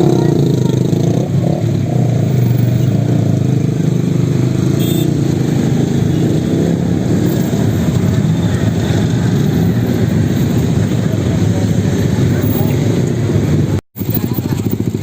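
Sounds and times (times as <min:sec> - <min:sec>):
traffic engines running: 0:00.0 - 0:15.0.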